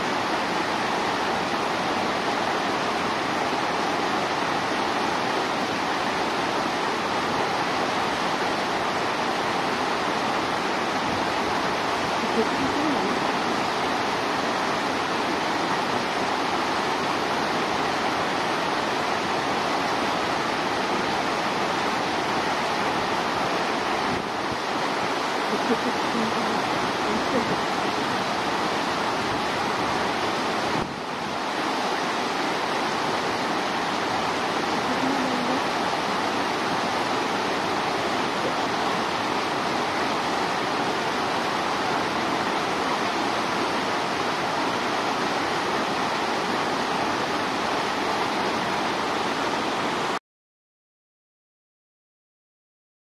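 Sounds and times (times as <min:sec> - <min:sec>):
water rushing in a pool: 0:00.0 - 0:50.2.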